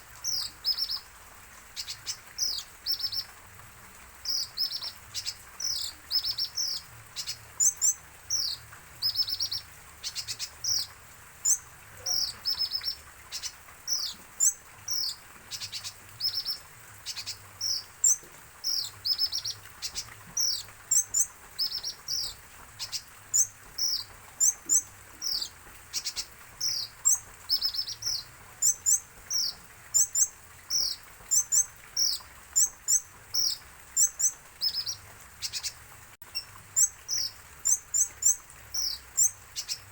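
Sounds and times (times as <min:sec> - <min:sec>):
sunbird chirping: 0:00.2 - 0:01.1, 0:01.7 - 0:03.3, 0:04.2 - 0:39.9.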